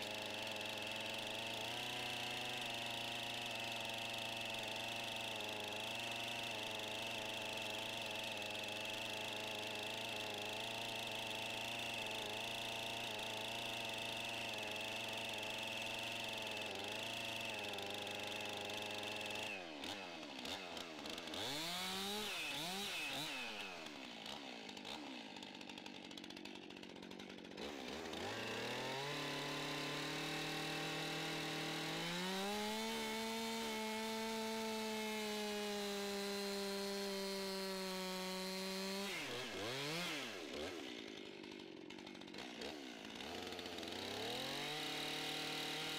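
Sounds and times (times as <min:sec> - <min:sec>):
chainsaw cutting timber: 0:00.0 - 0:45.9.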